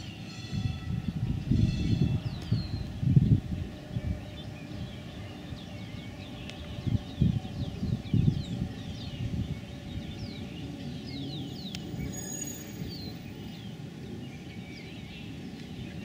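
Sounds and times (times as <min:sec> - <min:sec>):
distant streetcar rumble: 0:00.0 - 0:16.0
small birds chirping: 0:01.1 - 0:16.0.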